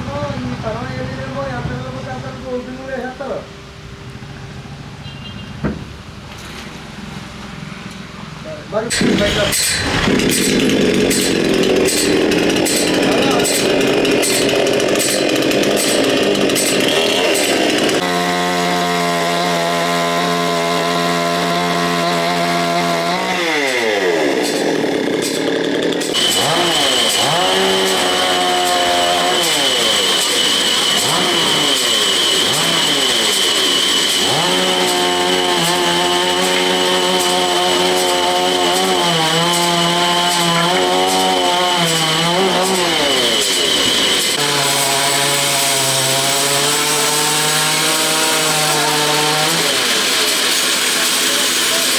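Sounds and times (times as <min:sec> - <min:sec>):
sawmill saw humming: 0:08.8 - 0:51.9.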